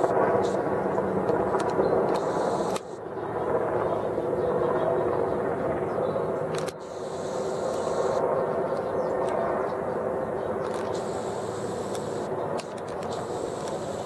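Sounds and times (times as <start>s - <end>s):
helicopter engine and rotor noise: 0.0s - 14.0s.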